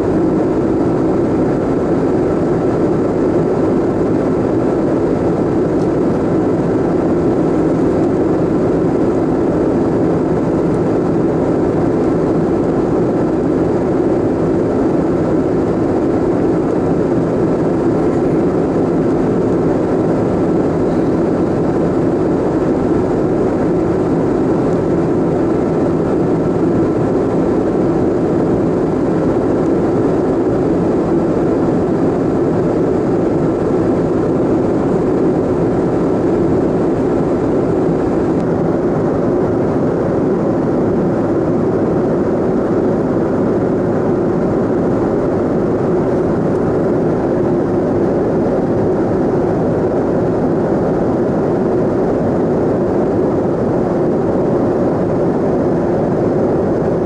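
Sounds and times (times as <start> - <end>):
jet engines humming: 0.0 - 57.0.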